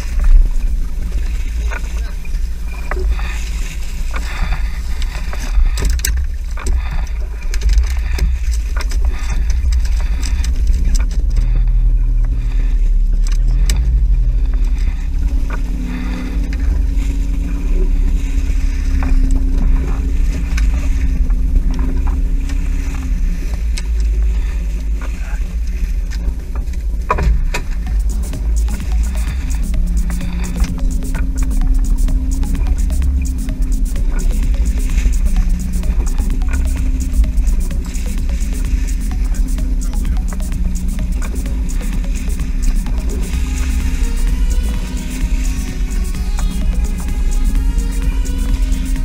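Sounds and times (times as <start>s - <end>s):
boat motor: 0.0s - 49.0s
wind on microphone: 0.0s - 49.0s.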